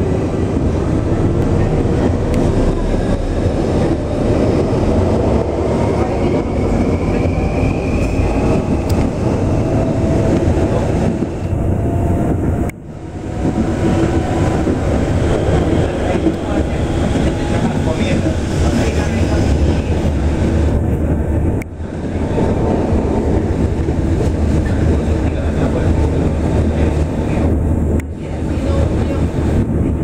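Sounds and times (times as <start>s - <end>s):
train running rumble: 0.0s - 30.0s.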